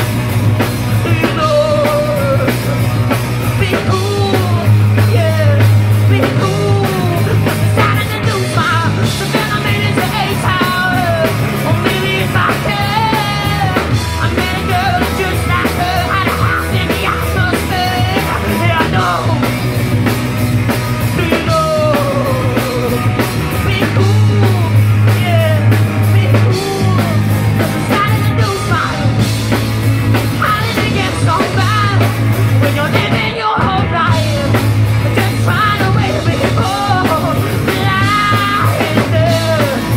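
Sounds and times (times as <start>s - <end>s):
bending melodic lead line: 0.0s - 39.9s
drum kit: 0.0s - 39.9s
heavy low bass line: 0.0s - 39.9s.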